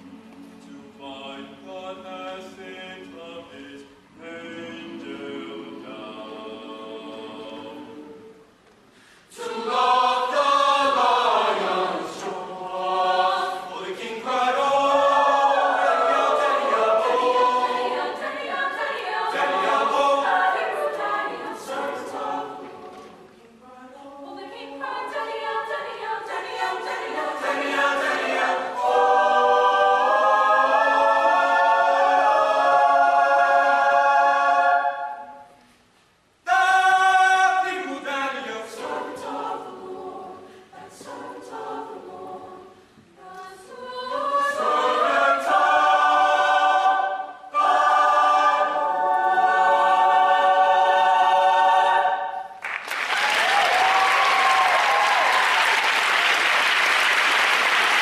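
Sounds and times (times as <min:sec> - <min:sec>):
choir singing a cappella: 0:00.0 - 0:35.7, 0:36.4 - 0:52.6.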